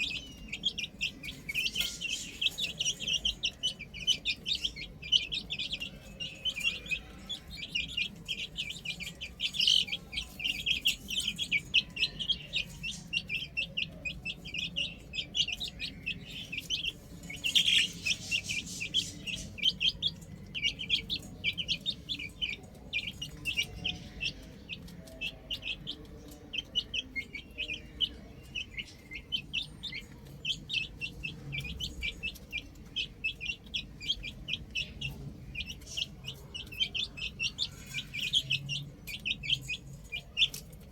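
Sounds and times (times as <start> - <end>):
baby chicks peeping: 0.0 - 40.9.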